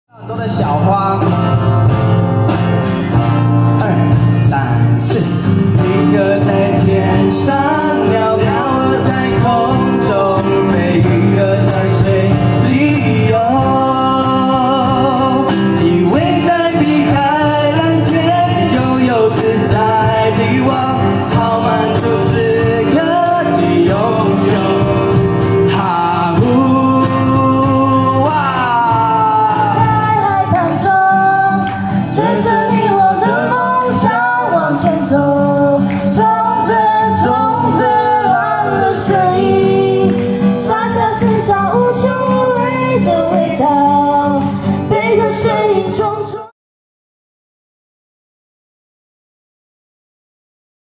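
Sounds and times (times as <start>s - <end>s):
cajon beat: 0.2s - 46.5s
strummed acoustic guitars: 0.2s - 46.5s
person singing: 3.6s - 46.5s.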